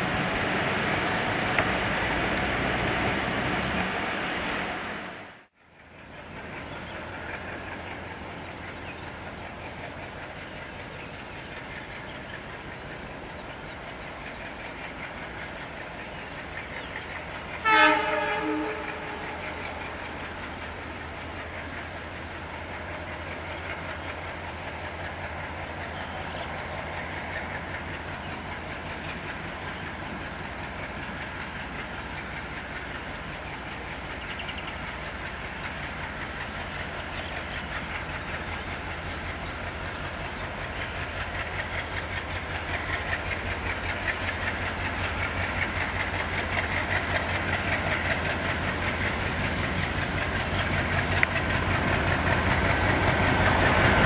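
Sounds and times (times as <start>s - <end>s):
train wheels clicking on rails: 0.0s - 54.0s.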